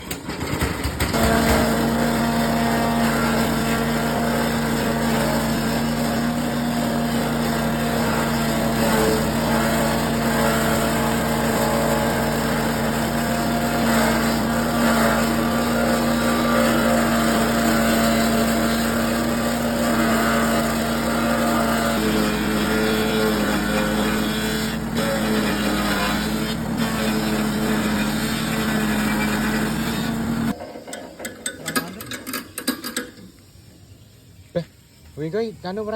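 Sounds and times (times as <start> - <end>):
grass chopper engine humming: 0.9 - 30.6.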